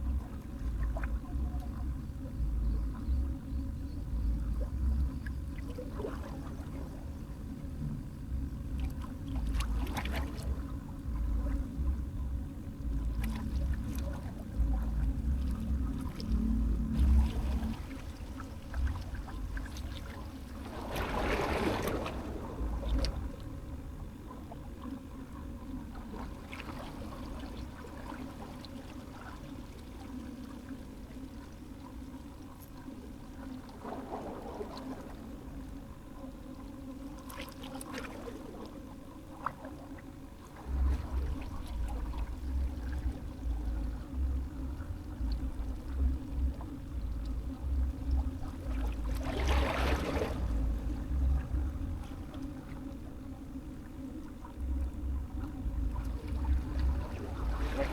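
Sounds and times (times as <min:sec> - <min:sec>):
wind rumbling on microphone: 0:00.0 - 0:29.3, 0:40.4 - 0:57.9
water lapping and trickling: 0:00.0 - 0:57.9.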